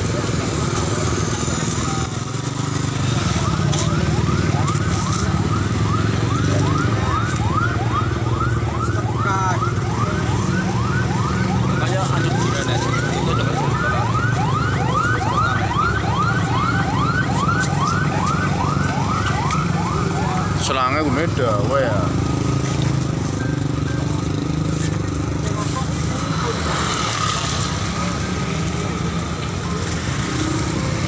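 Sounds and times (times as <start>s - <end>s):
siren yelping: 1.2s - 31.0s.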